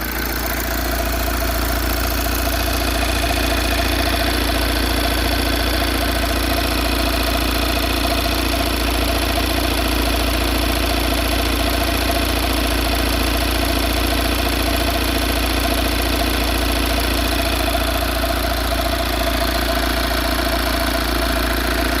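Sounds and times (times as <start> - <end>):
van engine idling with knock: 0.0 - 22.0.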